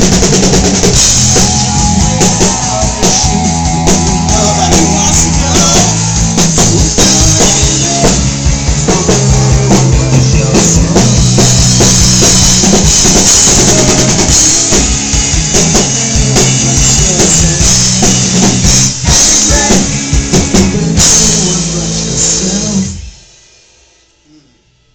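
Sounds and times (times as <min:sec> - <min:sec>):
rock band playing: 0:00.0 - 0:23.8
drum kit pounding a beat: 0:00.0 - 0:24.3.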